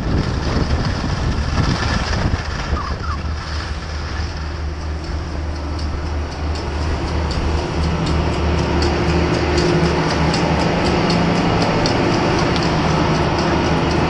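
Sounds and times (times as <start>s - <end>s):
cable clicking over sheaves: 0.0s - 14.0s
chairlift machinery hum: 0.0s - 14.0s.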